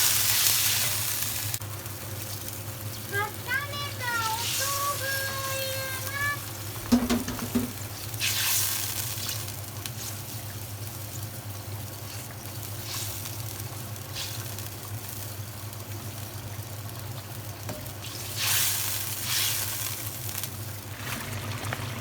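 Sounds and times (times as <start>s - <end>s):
tofu sizzling in sauce: 0.0s - 22.0s
sauce bubbling: 0.2s - 22.0s.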